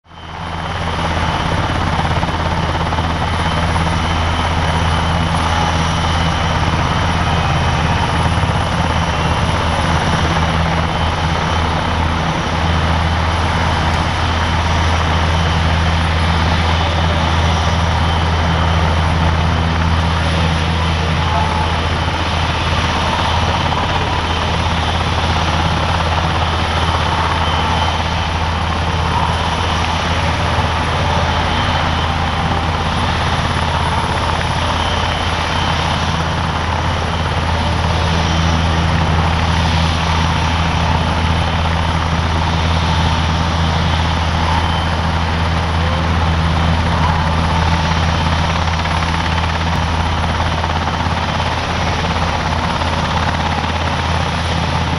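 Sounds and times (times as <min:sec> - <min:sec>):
helicopter rotor and engine hum: 0:00.0 - 0:54.9
high turbine whine: 0:00.0 - 0:54.9.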